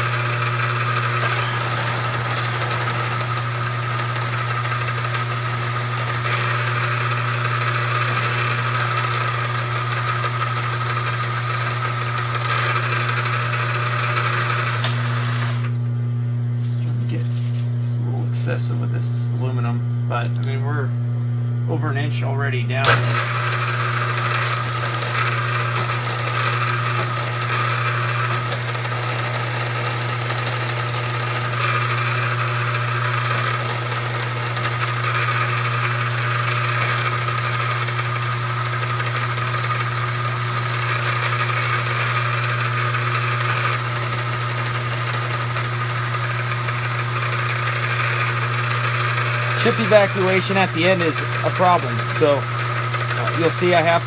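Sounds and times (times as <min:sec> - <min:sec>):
high whine of metal cutting: 0:00.0 - 0:15.9, 0:22.8 - 0:54.0
milling machine motor hum: 0:00.0 - 0:16.2, 0:22.8 - 0:54.0.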